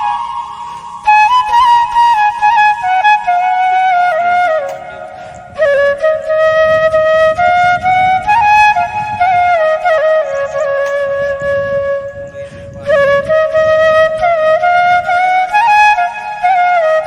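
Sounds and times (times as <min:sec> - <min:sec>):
solo flute slow melody: 0:00.0 - 0:17.0.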